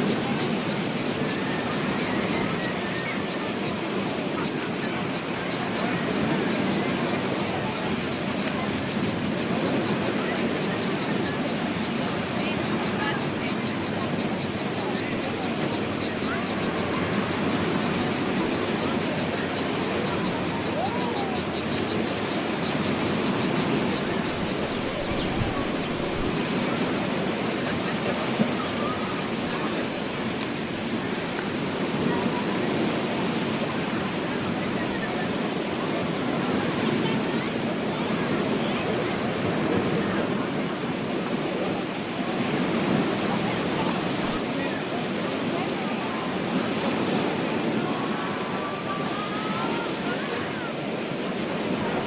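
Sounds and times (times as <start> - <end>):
high pulsing insect trill: 0.0 - 52.0
ocean surf: 0.0 - 52.0.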